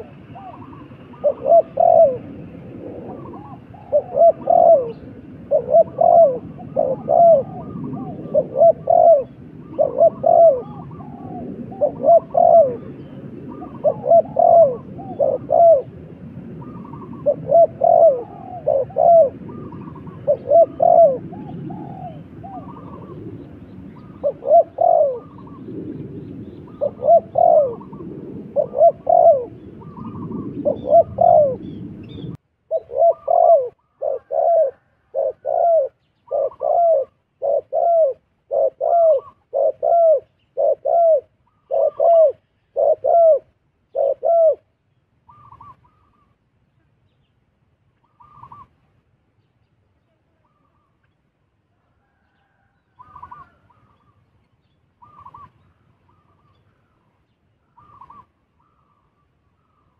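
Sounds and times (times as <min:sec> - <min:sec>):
dove cooing: 0:00.0 - 0:46.4, 0:48.0 - 0:48.8, 0:52.0 - 0:54.2, 0:55.0 - 0:57.0, 0:57.6 - 0:59.9.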